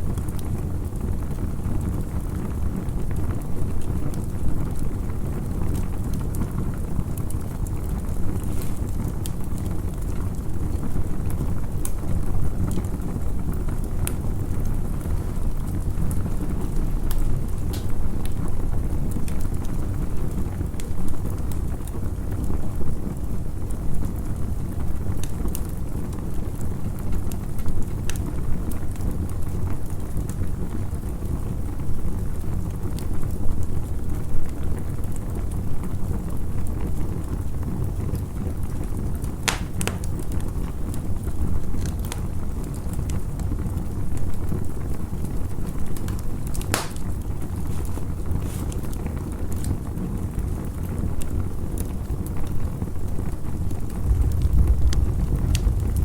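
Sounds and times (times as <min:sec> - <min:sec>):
campfire rumbling: 0:00.0 - 0:56.0
fire crackling and popping: 0:00.0 - 0:56.0.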